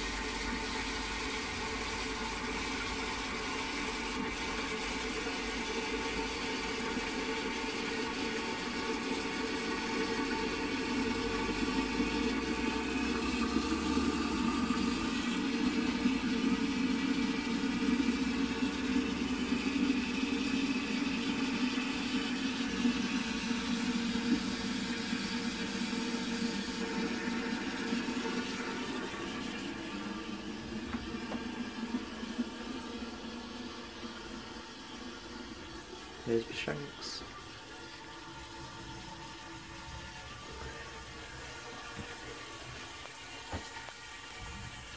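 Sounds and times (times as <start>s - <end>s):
cistern hissing as water runs: 0.0s - 44.9s.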